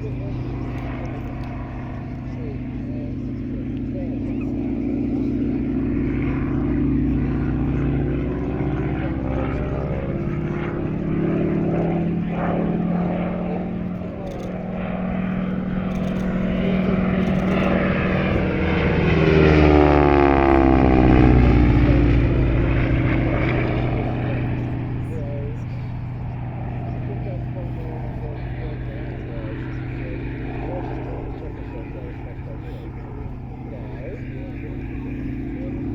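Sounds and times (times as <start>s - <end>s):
radial engine airplane: 0.0s - 35.9s.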